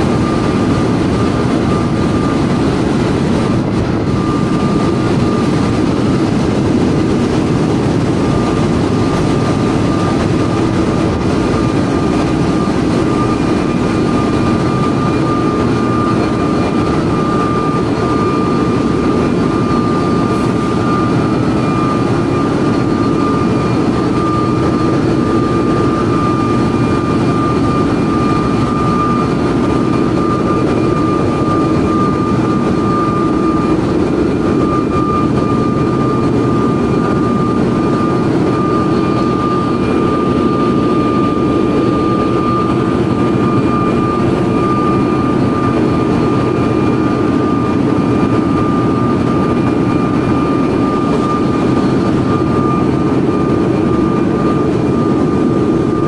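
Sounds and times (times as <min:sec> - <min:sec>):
constant high whine: 0:00.0 - 0:56.0
engine room low rumble: 0:00.0 - 0:56.0.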